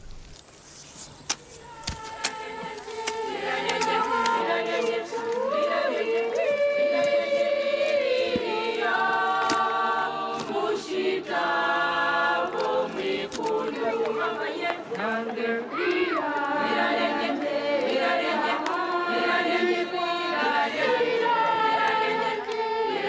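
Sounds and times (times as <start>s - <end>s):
choir singing: 1.4s - 23.0s.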